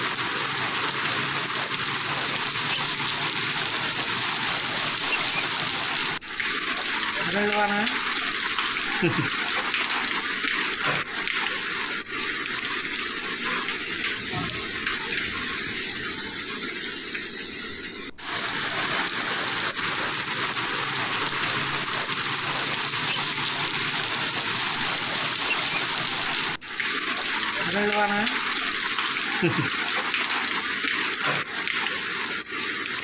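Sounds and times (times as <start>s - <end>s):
heavy rain: 0.0s - 17.1s, 18.2s - 33.0s.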